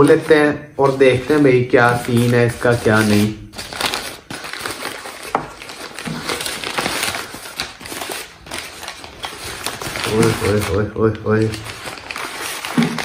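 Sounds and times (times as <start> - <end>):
paper wrapper crinkling: 0.0 - 13.0.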